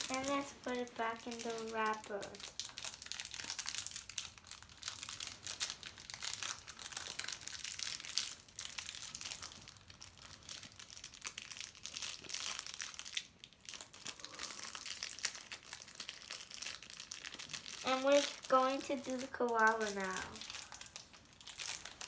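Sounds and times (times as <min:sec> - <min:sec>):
plastic wrapper crinkling: 0:00.0 - 0:22.0.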